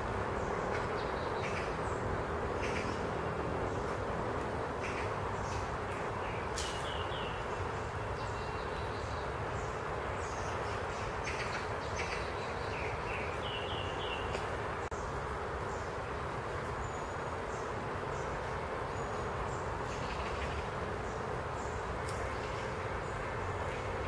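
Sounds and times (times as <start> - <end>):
wind through leaves: 0.0 - 24.0
small birds chirping: 4.7 - 24.0.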